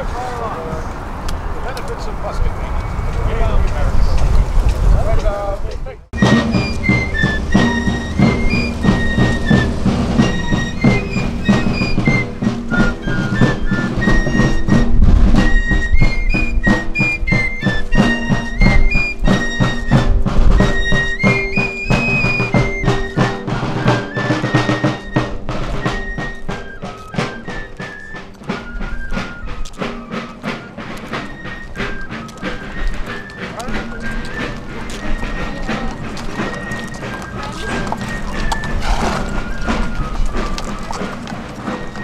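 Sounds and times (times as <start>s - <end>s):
steady drumming: 2.0s - 42.0s
high flute melody: 6.2s - 42.0s.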